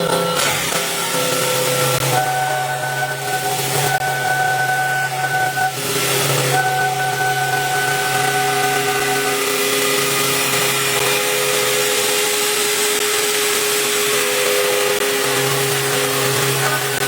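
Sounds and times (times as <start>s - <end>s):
cnc machine whirring and whining: 0.0s - 17.0s.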